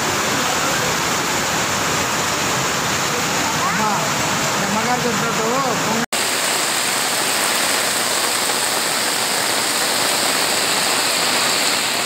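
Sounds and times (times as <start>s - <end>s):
heavy rain pouring onto water: 0.0s - 12.0s.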